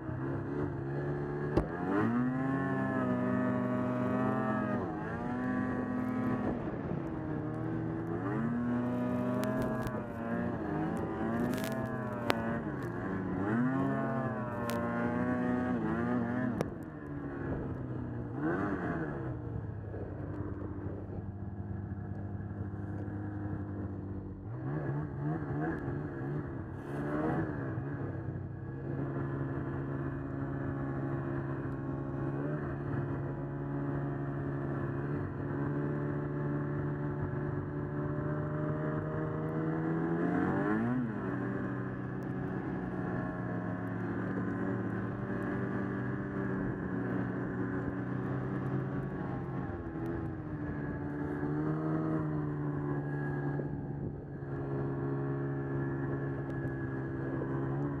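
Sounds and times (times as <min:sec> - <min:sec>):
snowmobile engine revving: 0:00.2 - 0:16.6, 0:18.3 - 0:19.2, 0:24.5 - 0:28.0, 0:28.8 - 0:53.8, 0:54.4 - 0:58.0.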